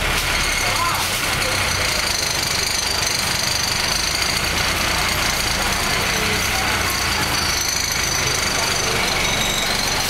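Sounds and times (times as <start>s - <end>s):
bus engine rattling: 0.0s - 10.0s.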